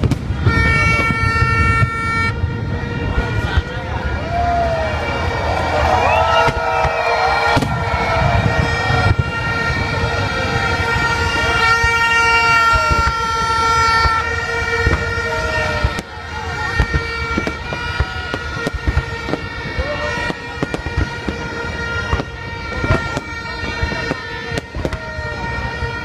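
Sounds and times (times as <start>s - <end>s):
fireworks thumps and bangs: 0.0s - 4.2s, 6.2s - 26.0s
crowd voices: 0.0s - 26.0s
toy party horns: 0.4s - 4.1s, 7.4s - 26.0s.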